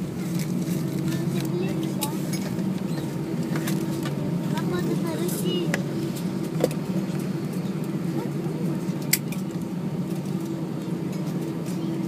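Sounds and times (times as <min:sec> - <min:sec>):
airplane cabin engine hum: 0:00.0 - 0:12.0.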